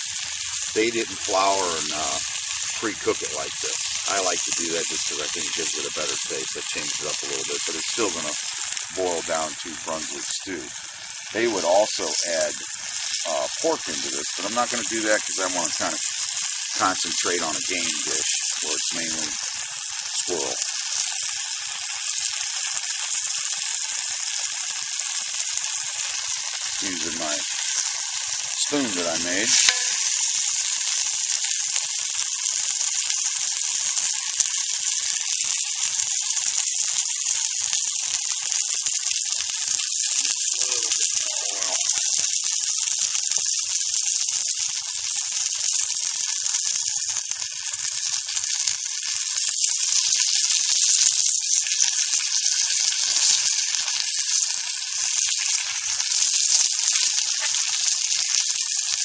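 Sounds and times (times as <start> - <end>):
meat sizzling in hot oil: 0.0 - 59.0.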